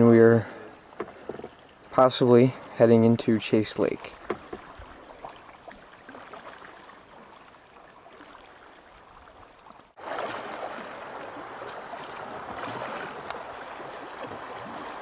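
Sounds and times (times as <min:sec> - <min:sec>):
paddle drips: 0:00.0 - 0:15.0
rushing water: 0:00.0 - 0:15.0
water lapping: 0:00.0 - 0:15.0.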